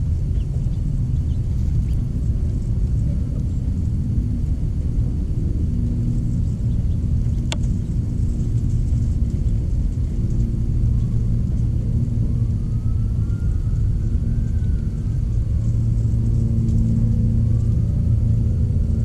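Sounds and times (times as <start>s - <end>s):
low rumble with a hum: 0.0s - 19.0s.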